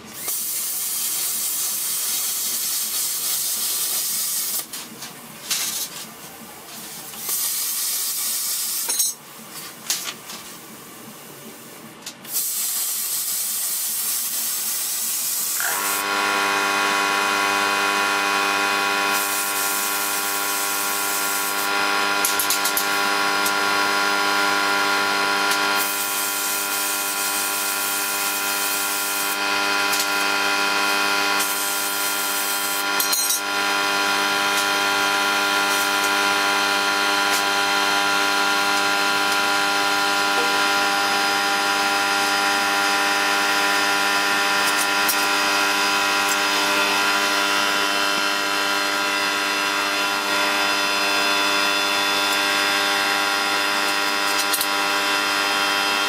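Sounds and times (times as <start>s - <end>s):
plasma cutter hissing: 0.1s - 4.8s, 6.8s - 9.0s, 11.6s - 56.0s
steady machine hum: 3.1s - 7.3s, 15.0s - 56.0s.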